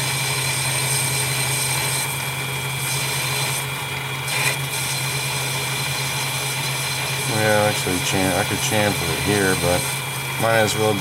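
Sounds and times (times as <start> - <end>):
lathe motor hum and whine: 0.0 - 11.0.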